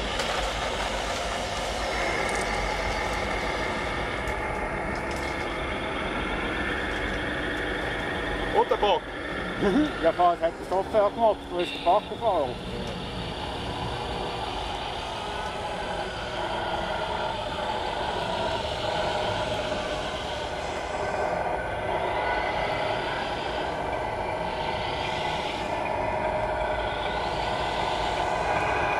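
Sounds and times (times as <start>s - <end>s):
model trucks running: 0.0s - 28.9s.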